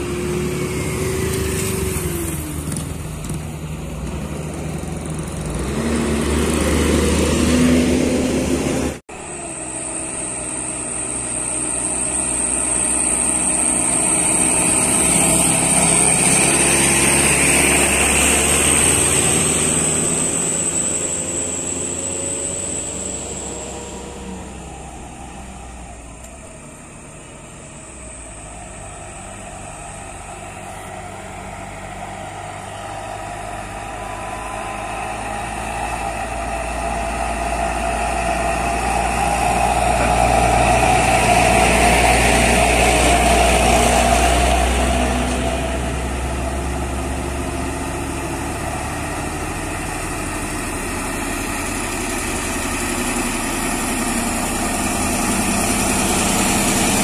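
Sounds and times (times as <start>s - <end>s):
diesel truck engine droning: 0.0s - 57.0s
second truck engine: 0.0s - 57.0s.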